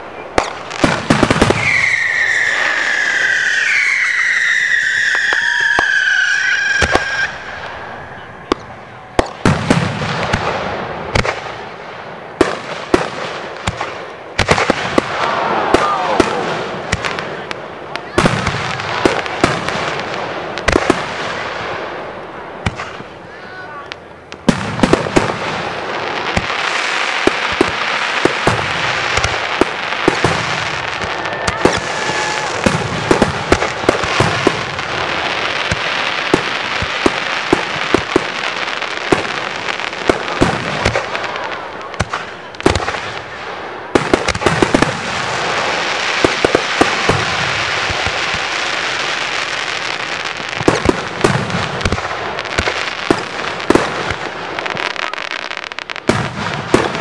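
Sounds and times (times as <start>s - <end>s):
fireworks crackling hiss: 0.0s - 57.0s.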